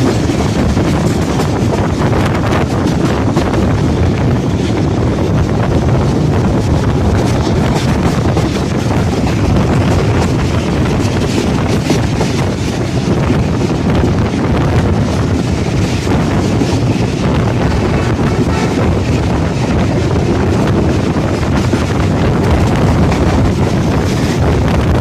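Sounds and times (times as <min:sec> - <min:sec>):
train running noise: 0:00.0 - 0:25.0
wind buffeting microphone: 0:00.0 - 0:25.0.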